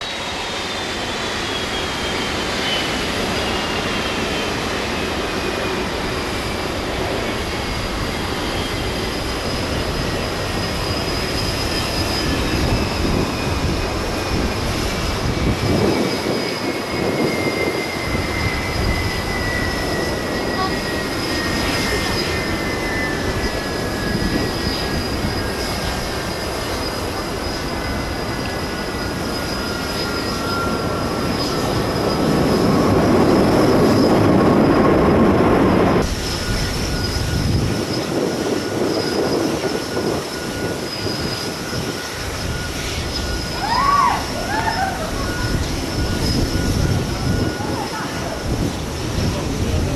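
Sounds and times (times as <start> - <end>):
jet engines roaring: 0.0 - 49.9.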